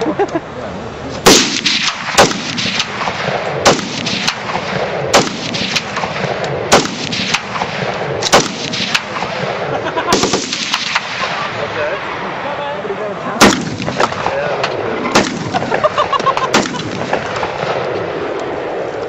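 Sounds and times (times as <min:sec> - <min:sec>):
rifle shots: 0:01.2 - 0:12.2, 0:13.4 - 0:19.0
gunshot echoes: 0:01.2 - 0:12.3, 0:13.4 - 0:18.3.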